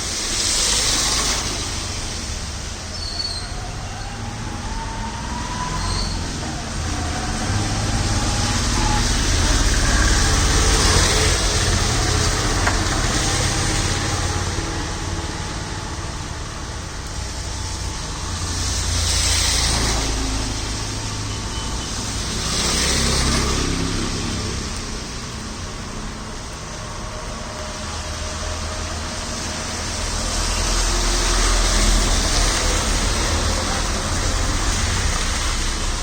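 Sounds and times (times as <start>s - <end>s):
engines rumbling: 0.0s - 36.0s
tyres hissing on wet tarmac: 0.0s - 36.0s.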